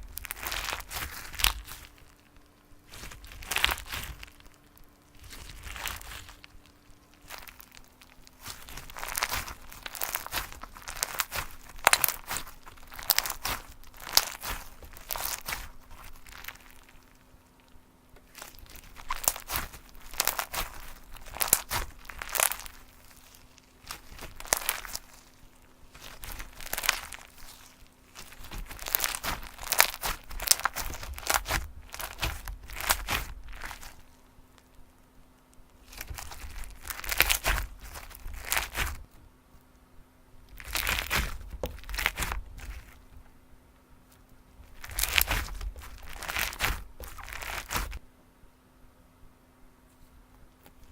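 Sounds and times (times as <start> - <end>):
slime squished by hand: 0.0 - 34.2, 35.8 - 39.2, 40.5 - 43.1, 44.6 - 48.0.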